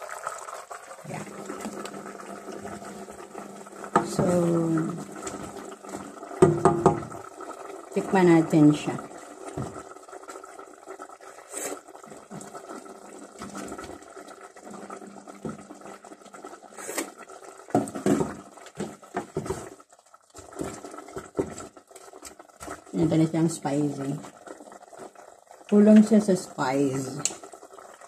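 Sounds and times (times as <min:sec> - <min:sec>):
wooden spoon stirring in a pot: 0:01.2 - 0:28.0.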